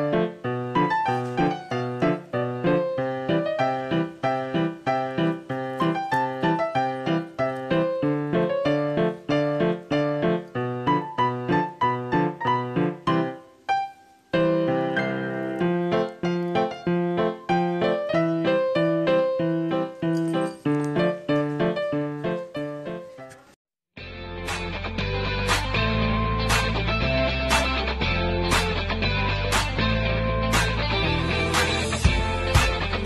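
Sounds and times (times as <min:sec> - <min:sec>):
bouncy keyboard tune: 0:00.0 - 0:33.0.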